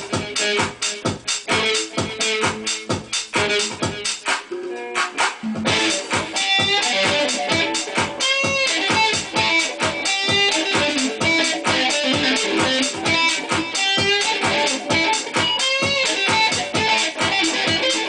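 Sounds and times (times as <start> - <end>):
guitar melody with bent notes: 0.0 - 18.0
steady beat: 0.0 - 18.0.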